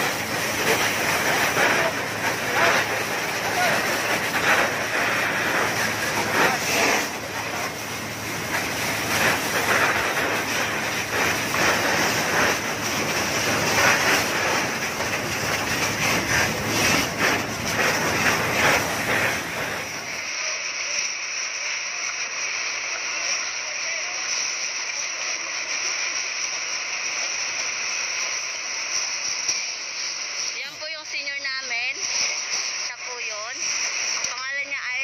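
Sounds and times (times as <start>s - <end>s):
fire hose spraying water: 0.0s - 35.0s.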